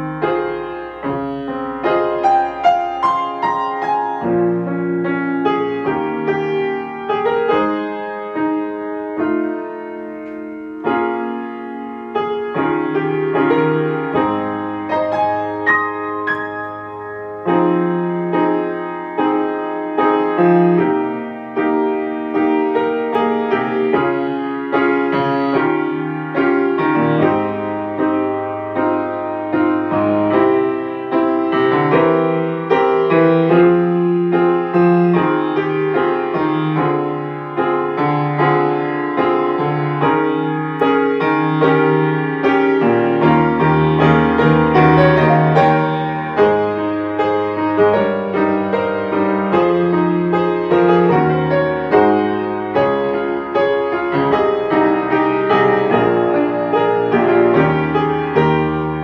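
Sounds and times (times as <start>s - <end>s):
piano chords and melody: 0.0s - 59.0s.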